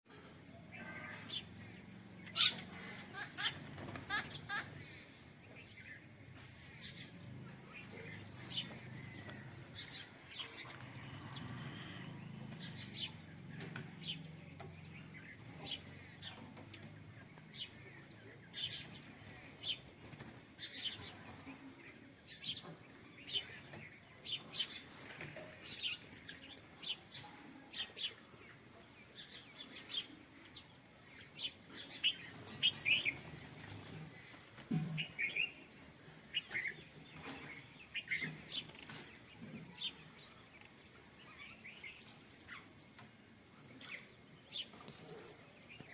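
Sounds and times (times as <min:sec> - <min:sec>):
birds chirping: 0:00.1 - 0:45.9.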